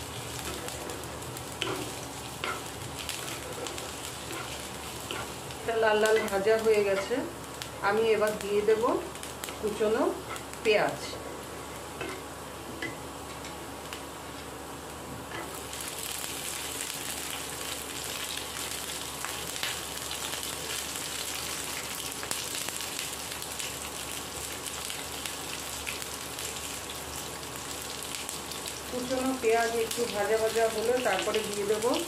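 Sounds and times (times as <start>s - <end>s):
garlic and ginger sizzling in oil: 0.0s - 32.0s.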